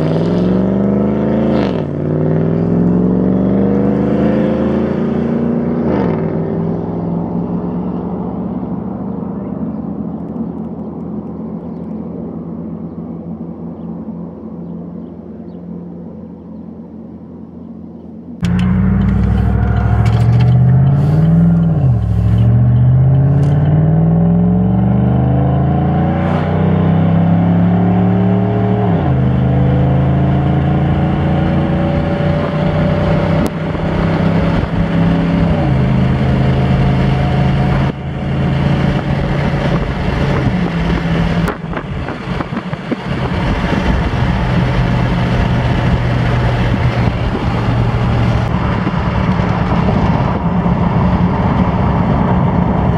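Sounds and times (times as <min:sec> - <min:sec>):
truck exhaust accelerating: 0:00.0 - 0:52.9.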